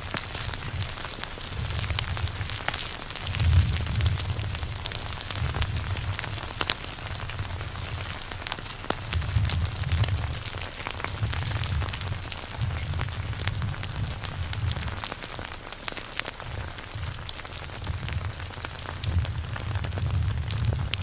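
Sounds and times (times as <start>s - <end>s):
dense crackling and popping: 0.0s - 21.0s.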